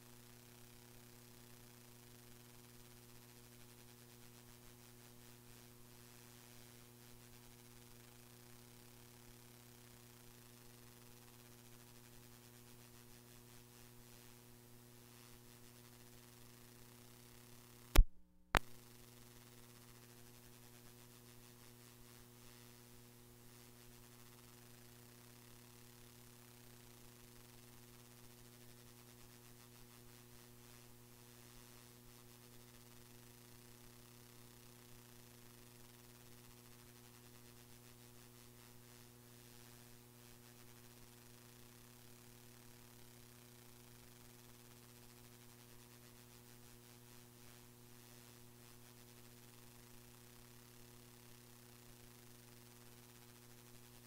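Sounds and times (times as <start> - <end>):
faint mains hum and hiss: 0.0 - 18.0, 18.6 - 54.0.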